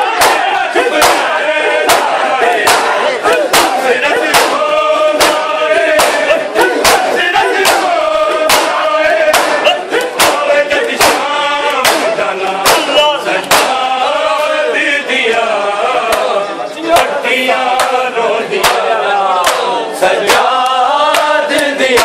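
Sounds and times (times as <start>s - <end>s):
men chanting with group response: 0.0s - 22.0s
chest-beating slaps: 0.2s - 13.8s, 16.9s - 18.0s, 18.6s - 22.0s.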